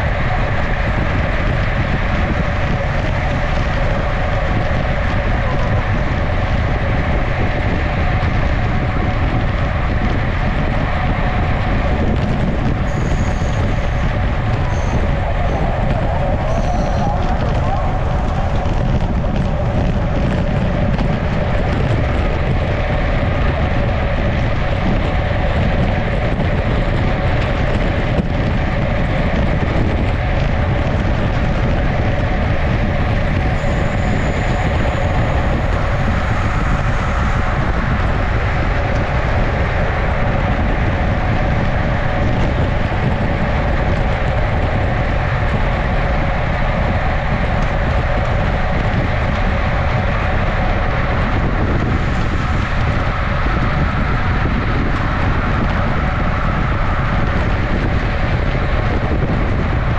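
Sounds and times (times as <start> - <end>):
bike tyres humming on asphalt: 0.0 - 59.9
wind rushing on microphone: 0.0 - 59.9.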